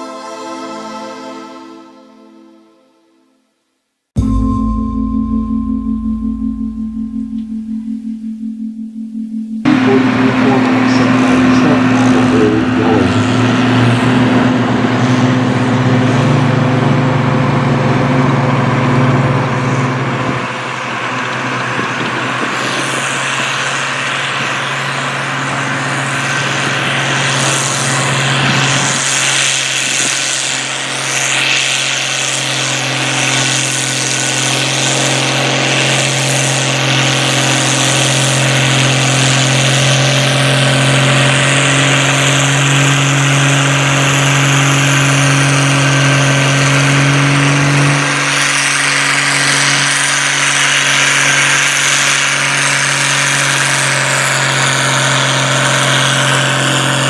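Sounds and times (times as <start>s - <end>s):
tractor engine running: 9.6s - 57.0s.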